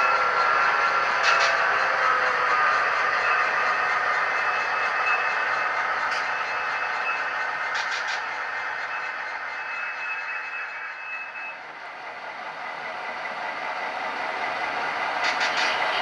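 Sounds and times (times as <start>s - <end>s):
model train rolling with whine: 0.0s - 16.0s.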